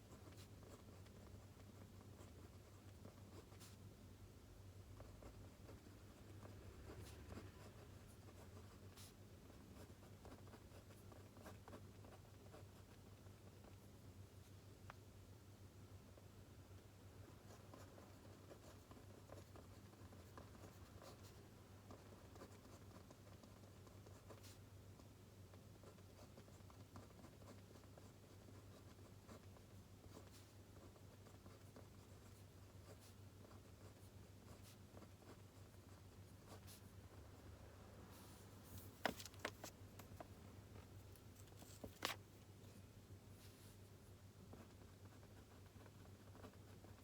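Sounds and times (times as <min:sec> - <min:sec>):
pen scratching on paper: 0:00.0 - 0:03.8, 0:05.0 - 0:13.8, 0:17.5 - 0:25.1, 0:25.8 - 0:36.9, 0:38.1 - 0:42.2, 0:44.5 - 0:47.0.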